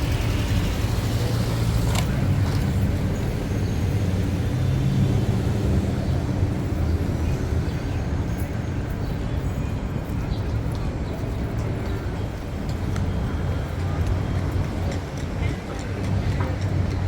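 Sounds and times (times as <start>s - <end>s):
rumble of traffic engines: 0.0s - 17.0s.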